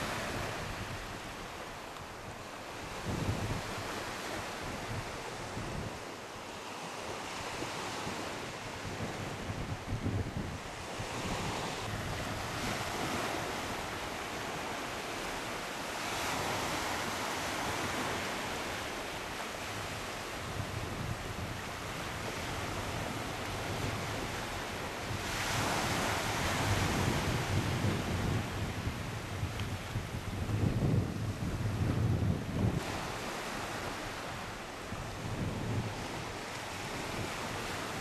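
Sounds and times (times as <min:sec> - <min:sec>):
sea waves washing onto sand: 0:00.0 - 0:38.0
wind rumble on microphone: 0:00.0 - 0:38.0.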